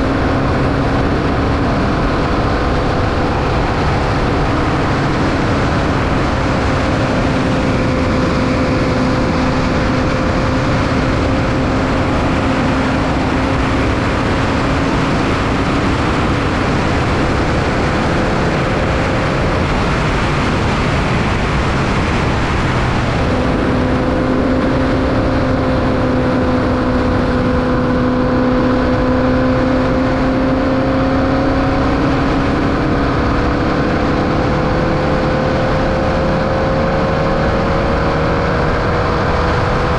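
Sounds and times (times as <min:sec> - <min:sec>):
heavy wind: 0:00.0 - 0:39.9
race car engine at high revs: 0:00.0 - 0:39.9
road rumble: 0:00.0 - 0:39.9.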